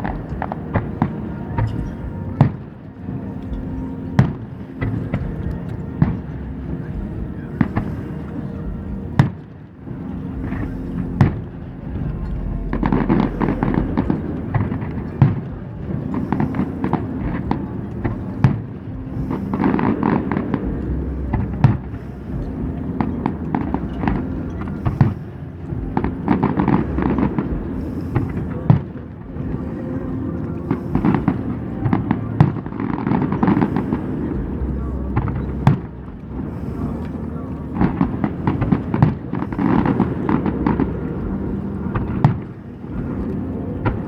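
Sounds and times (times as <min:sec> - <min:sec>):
fireworks bangs: 0:00.0 - 0:44.0
fireworks crackling: 0:00.0 - 0:44.0.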